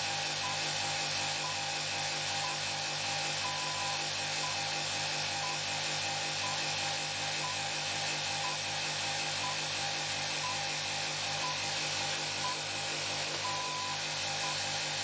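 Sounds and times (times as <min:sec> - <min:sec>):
generator running with low pulsing: 0:00.0 - 0:15.0.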